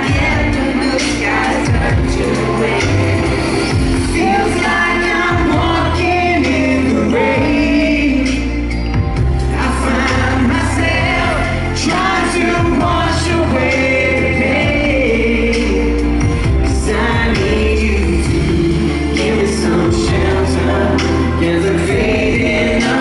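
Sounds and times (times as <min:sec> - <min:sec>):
man singing into microphone: 0:00.0 - 0:08.7, 0:09.4 - 0:23.0
live pop music: 0:00.0 - 0:23.0.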